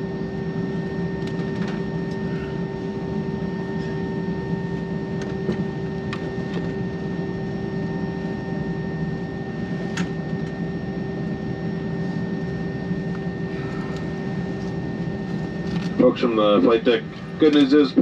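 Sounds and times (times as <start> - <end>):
airliner cabin hum: 0.0 - 18.0.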